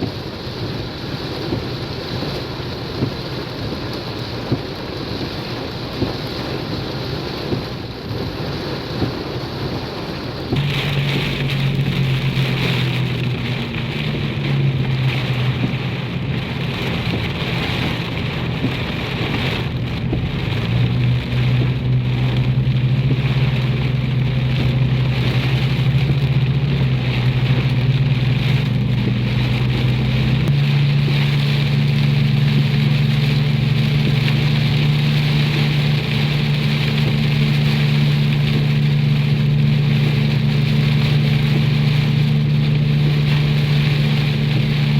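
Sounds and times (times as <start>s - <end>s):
car engine humming: 0.0s - 44.9s
rain drumming on a car: 0.0s - 44.9s.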